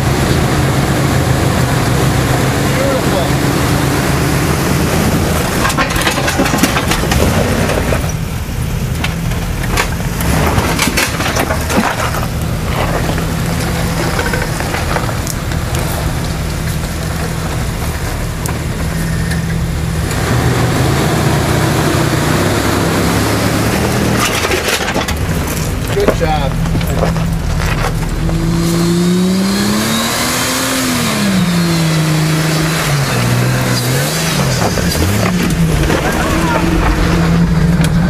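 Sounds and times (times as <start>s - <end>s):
engine running at low revs: 0.0s - 38.0s.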